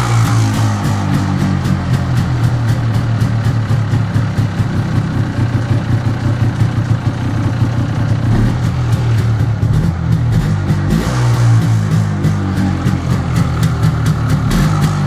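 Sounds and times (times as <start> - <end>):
two-stroke engine idling: 0.0 - 11.0, 11.6 - 15.0.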